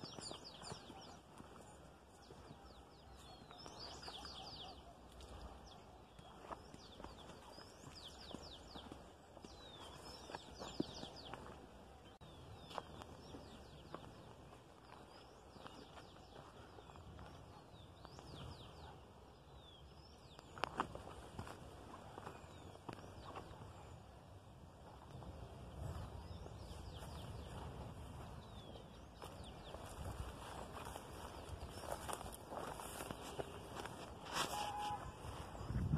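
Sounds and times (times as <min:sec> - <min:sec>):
footsteps on dirt and stone: 0:00.0 - 0:18.7, 0:20.3 - 0:23.9, 0:24.9 - 0:35.9
birds singing: 0:00.0 - 0:35.9.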